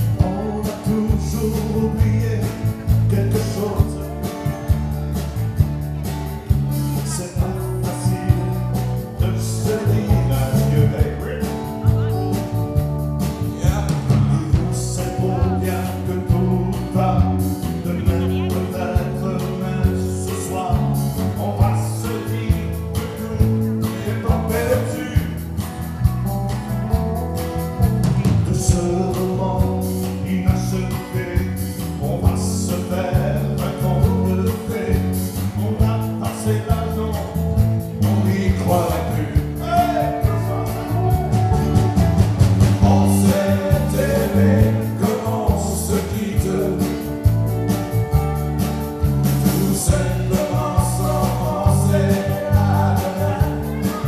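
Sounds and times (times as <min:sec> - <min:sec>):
man singing: 0:00.0 - 0:42.0, 0:42.7 - 0:47.6, 0:49.3 - 0:54.0
drums: 0:00.0 - 0:54.0
electric guitars: 0:00.0 - 0:54.0.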